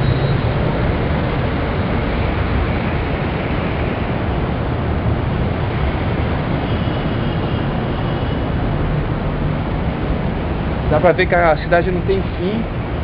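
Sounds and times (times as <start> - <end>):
distant city traffic hum: 0.0 - 13.0.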